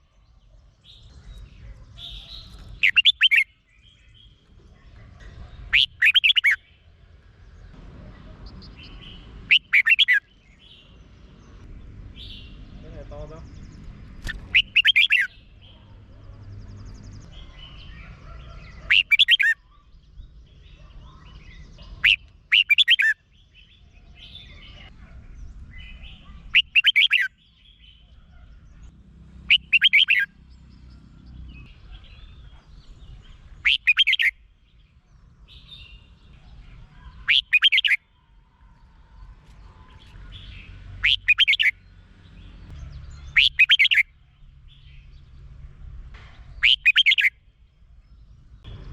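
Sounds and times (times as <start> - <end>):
bird singing warbling phrases: 0.0 - 45.2, 46.4 - 48.9.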